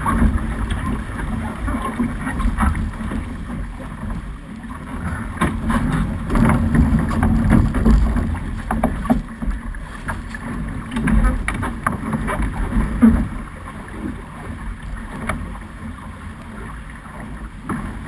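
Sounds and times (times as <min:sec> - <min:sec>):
wind buffeting microphone: 0:00.0 - 0:14.5
water rushing along hull: 0:00.0 - 0:18.0
water splashes: 0:00.0 - 0:18.0.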